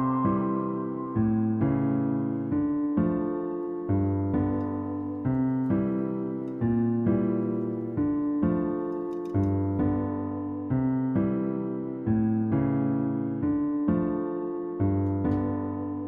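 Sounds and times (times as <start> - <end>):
soft electric piano chords: 0.0 - 16.0.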